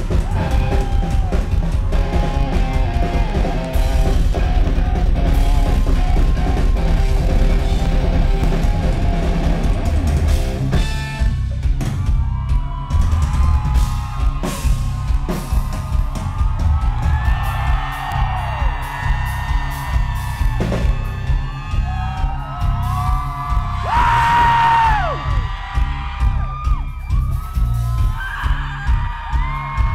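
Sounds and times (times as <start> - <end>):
crowd whooping and yelling: 0.0 - 29.9
drum kit beat: 0.0 - 29.9
live rock band playing: 0.0 - 29.9.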